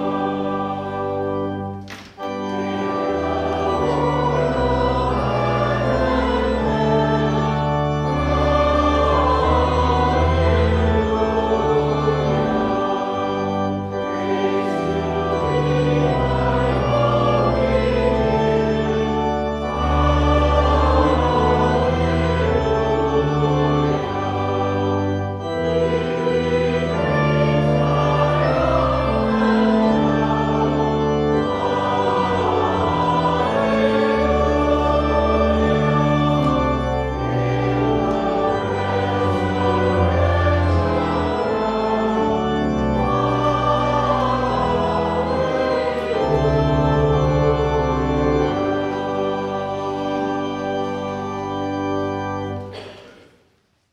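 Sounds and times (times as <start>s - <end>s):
choir singing a hymn: 0.0s - 53.4s
church organ: 0.0s - 53.9s.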